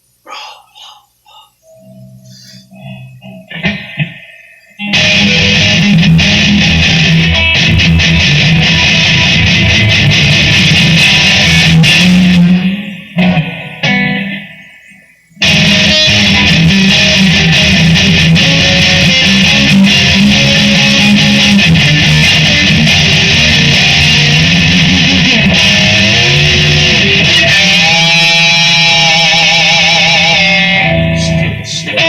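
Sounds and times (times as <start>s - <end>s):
distorted electric guitar: 1.7s - 32.0s.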